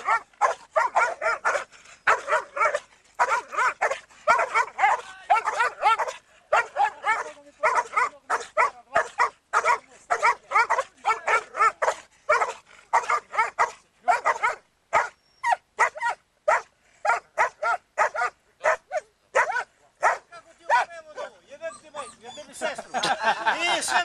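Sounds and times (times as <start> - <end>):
dogs barking and yelping: 0.0 - 22.9.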